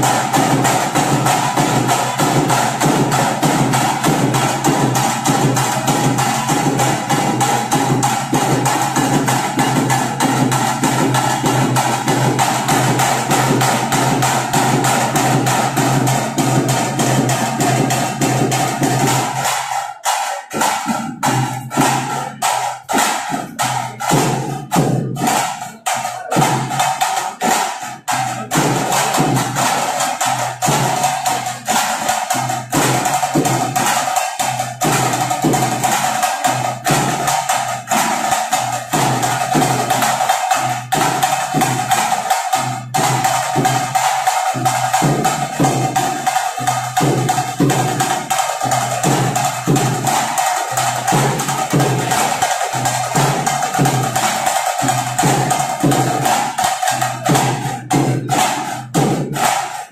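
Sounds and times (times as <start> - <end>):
drums beating fast rhythm: 0.0 - 59.9.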